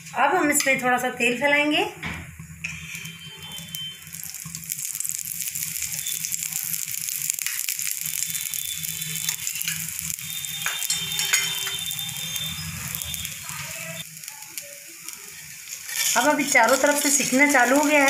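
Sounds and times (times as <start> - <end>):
batter sizzling on a hot pan: 2.3 - 18.0.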